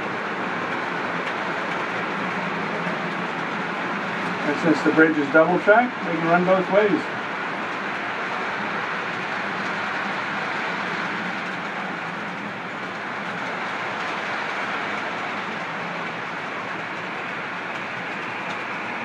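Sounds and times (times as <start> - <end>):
model train wheels rolling on rails: 0.0 - 19.0.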